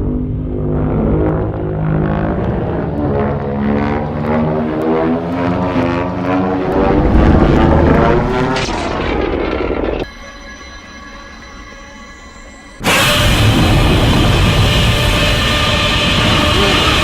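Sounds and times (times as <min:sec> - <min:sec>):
deep noisy rumble: 0:00.0 - 0:10.1, 0:12.8 - 0:17.0.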